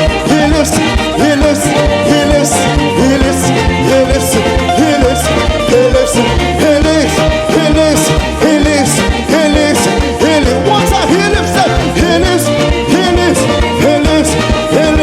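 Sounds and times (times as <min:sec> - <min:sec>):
drum beat: 0:00.0 - 0:15.0
gospel band playing upbeat music: 0:00.0 - 0:15.0
sliding lead melody: 0:00.0 - 0:15.0.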